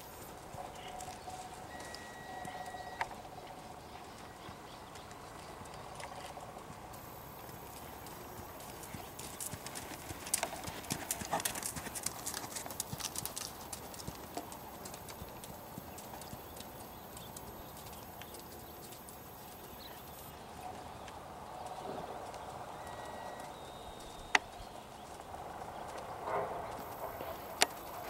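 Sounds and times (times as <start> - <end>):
horse hoofbeats trotting on sand: 0.0 - 28.0.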